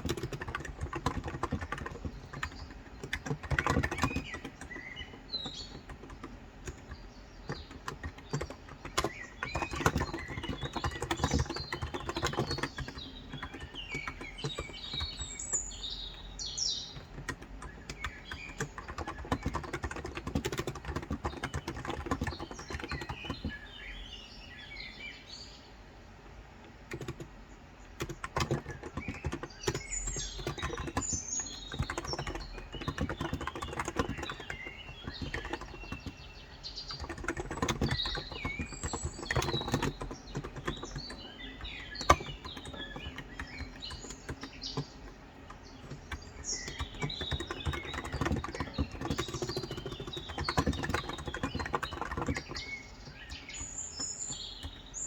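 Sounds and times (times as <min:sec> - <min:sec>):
keyboard typing: 0:00.0 - 0:24.0, 0:26.6 - 0:55.0
birds chirping: 0:00.0 - 0:55.0.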